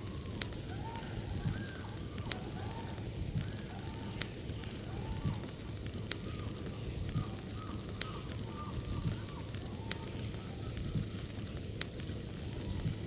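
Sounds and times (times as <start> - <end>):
bonfire rushing: 0.0 - 13.0
wood popping in fire: 0.0 - 13.0.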